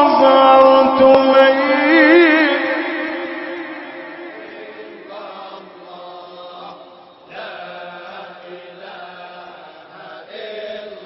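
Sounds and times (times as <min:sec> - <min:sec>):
voices chanting: 0:01.8 - 0:11.0.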